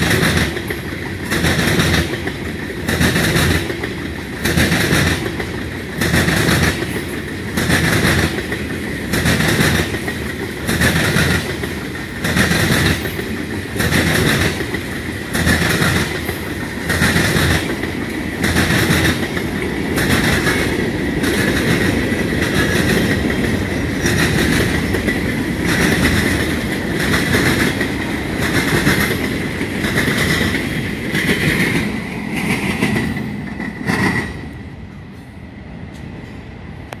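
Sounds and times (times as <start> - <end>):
train wheels clacking on rails: 0.0 - 34.8
train rumble: 0.0 - 37.0.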